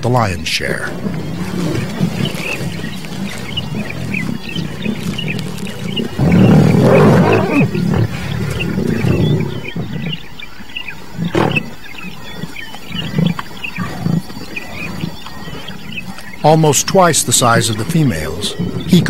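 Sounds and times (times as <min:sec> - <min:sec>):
lion growling: 0:00.0 - 0:19.0.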